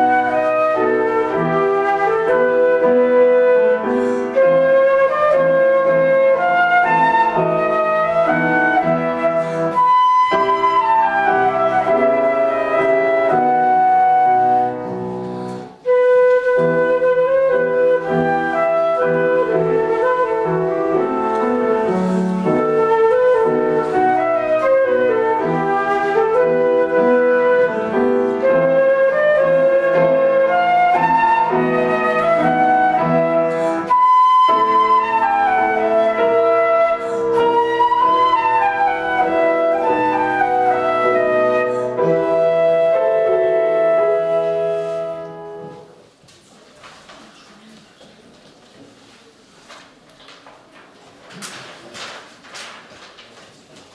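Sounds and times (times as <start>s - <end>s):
flute-like melody: 0.0s - 46.0s.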